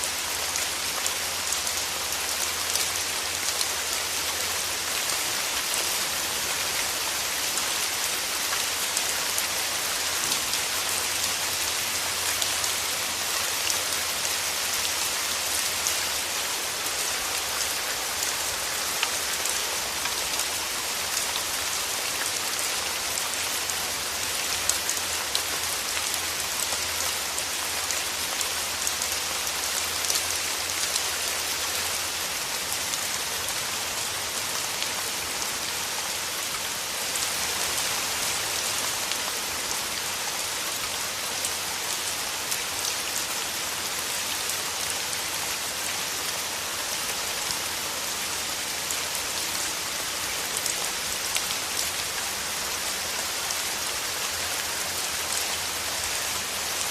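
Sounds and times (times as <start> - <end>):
rain falling through trees: 0.0 - 56.9.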